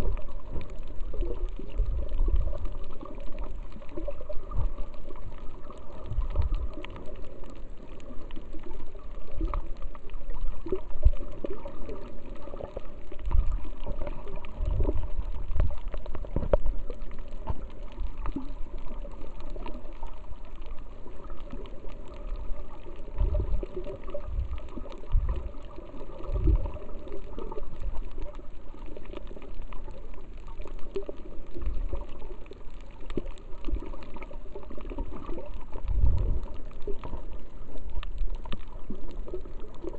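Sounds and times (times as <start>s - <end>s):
muffled water sloshing: 0.0s - 39.9s.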